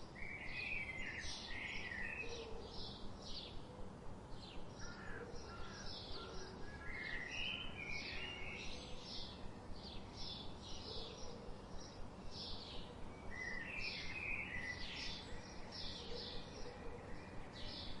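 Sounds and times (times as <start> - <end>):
faint outdoor background: 0.0 - 18.0.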